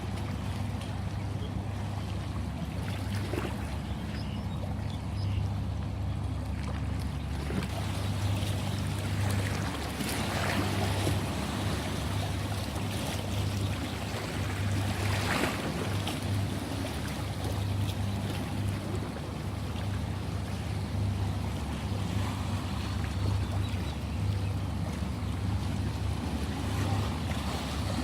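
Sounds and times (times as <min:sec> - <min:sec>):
ocean waves washing on shore: 0:00.0 - 0:28.0.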